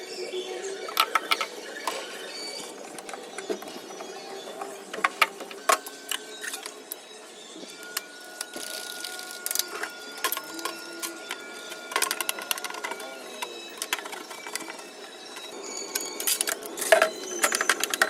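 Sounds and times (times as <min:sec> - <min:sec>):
faint steady high tone: 0:00.0 - 0:18.0.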